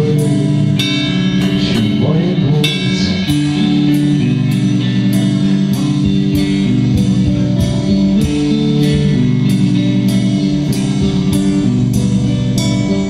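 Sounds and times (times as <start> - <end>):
rock guitar chords: 0.0 - 13.0
drum beat: 1.4 - 13.0.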